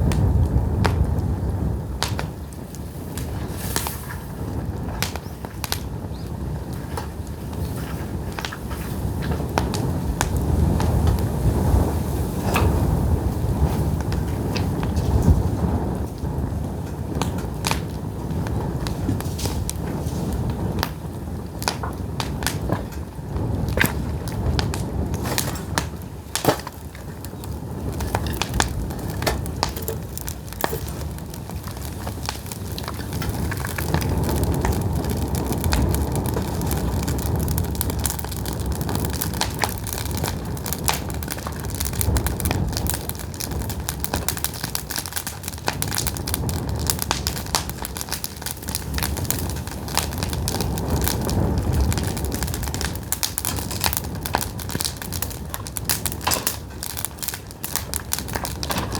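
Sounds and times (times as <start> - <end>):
fire low rumble: 0.0 - 58.9
firewood crackling and popping: 0.0 - 58.9.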